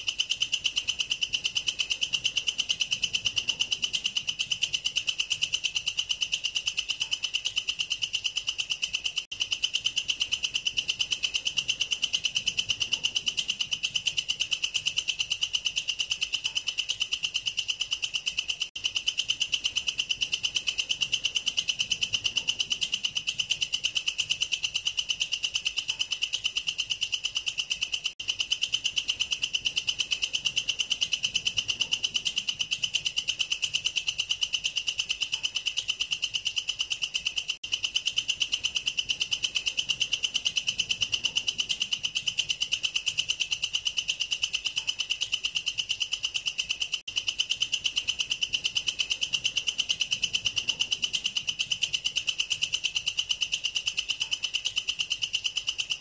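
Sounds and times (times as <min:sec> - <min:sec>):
katydid shrill pulsed stridulation: 0:00.0 - 0:56.0.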